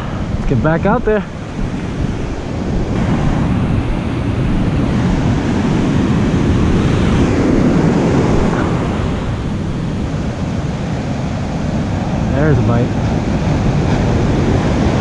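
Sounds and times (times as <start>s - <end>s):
ocean surf breaking on beach: 0.0s - 15.0s
wind rumbling on microphone: 0.0s - 15.0s.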